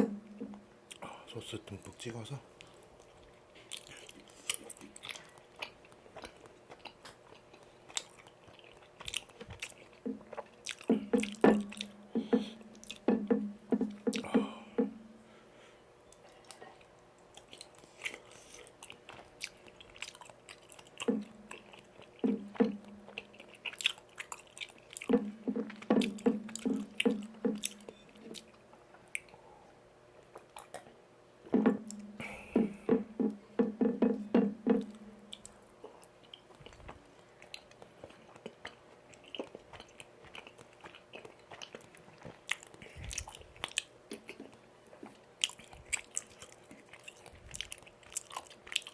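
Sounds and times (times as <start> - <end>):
close chewing and mouth smacking: 1.7 - 13.1, 13.7 - 14.3, 16.1 - 29.5, 30.2 - 31.0, 35.3 - 48.9.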